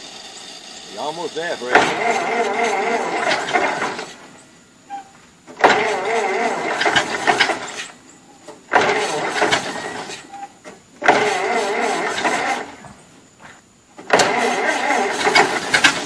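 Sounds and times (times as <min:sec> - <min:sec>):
engine cranking: 0:00.0 - 0:13.4, 0:14.0 - 0:16.0.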